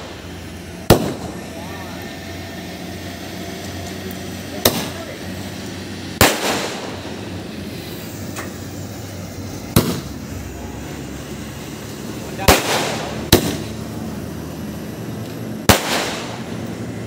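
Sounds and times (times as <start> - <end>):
firework bangs: 0.0 - 2.2, 3.0 - 17.0.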